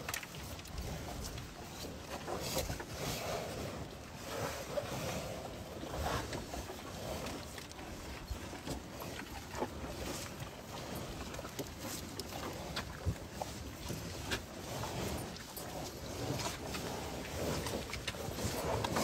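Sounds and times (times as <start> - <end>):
cattle crunching feed: 0.0 - 19.0.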